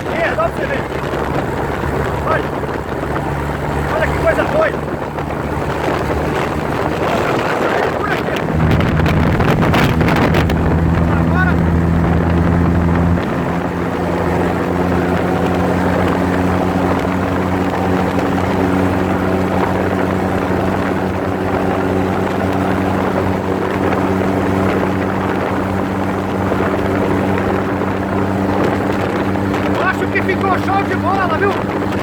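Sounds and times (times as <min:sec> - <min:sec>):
motor tricycle engine running: 0:00.0 - 0:32.0
road and wind noise: 0:00.0 - 0:32.0.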